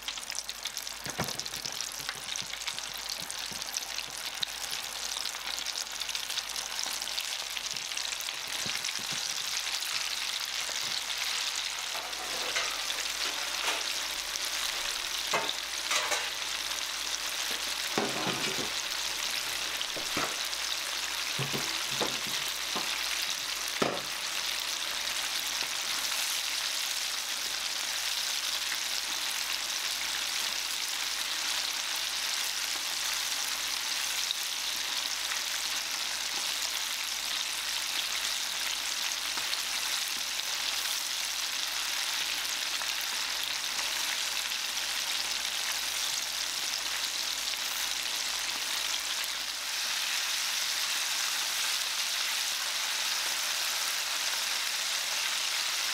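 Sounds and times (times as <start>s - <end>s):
chicken deep-frying in hot oil: 0.0s - 55.9s.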